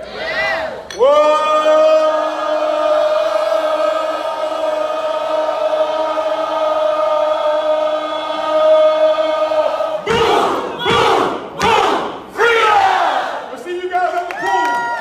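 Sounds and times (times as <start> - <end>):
crowd singing a long note: 0.0 - 13.4
crowd shouting and cheering: 0.0 - 15.0.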